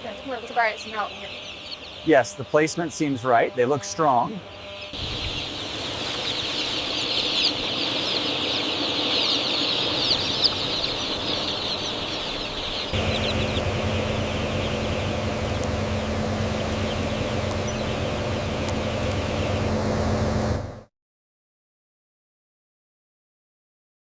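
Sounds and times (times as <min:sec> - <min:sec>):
chicks peeping: 0:00.0 - 0:20.2
low machine hum: 0:00.0 - 0:20.9.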